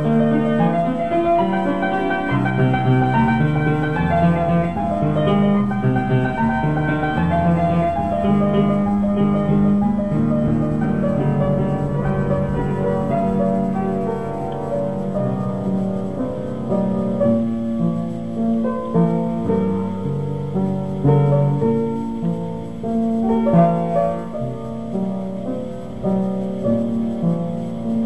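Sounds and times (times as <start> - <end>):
ambient keyboard music: 0.0 - 28.0.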